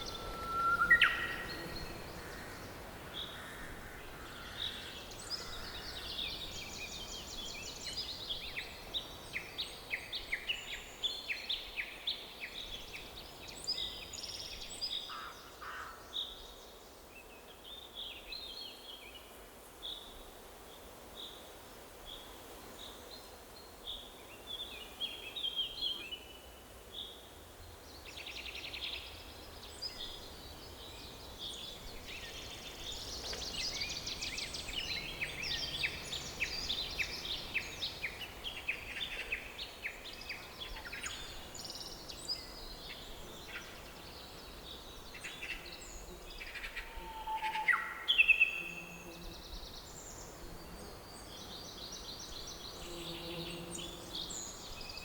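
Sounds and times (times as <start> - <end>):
songbirds chirping and trilling: 0.0 - 15.8, 23.8 - 55.0
faint background hiss: 0.0 - 55.0.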